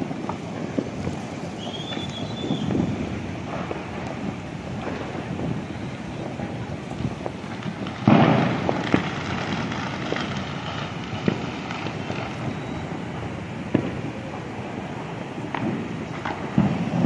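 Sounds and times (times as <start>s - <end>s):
distant firecracker bang: 0.0s - 14.5s, 15.4s - 17.0s
firecracker cracks: 0.0s - 17.0s
steady background noise: 0.0s - 17.0s.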